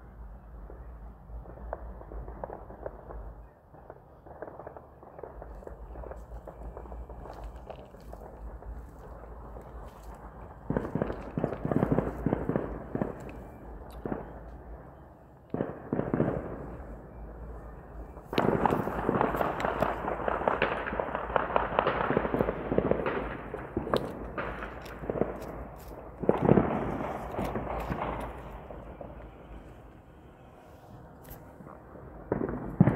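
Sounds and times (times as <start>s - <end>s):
firecrackers popping: 0.7s - 32.9s
low rumble: 5.3s - 32.9s.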